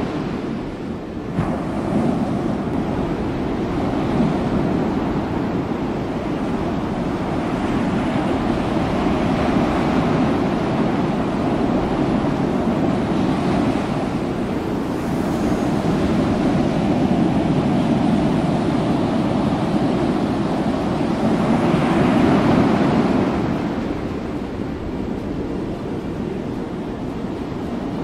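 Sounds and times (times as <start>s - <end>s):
sea wash: 0.0s - 28.0s
wind on microphone: 0.0s - 28.0s.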